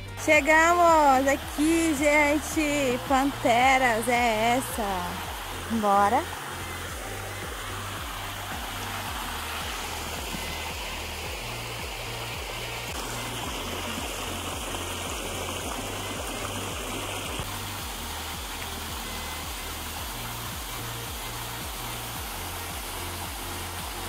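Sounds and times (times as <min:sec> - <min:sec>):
background music bass line: 0:00.0 - 0:24.0
water rushing over rocks: 0:00.0 - 0:24.0.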